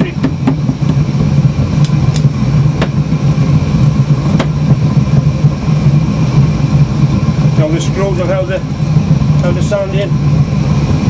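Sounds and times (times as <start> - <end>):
machine droning: 0.0 - 11.0.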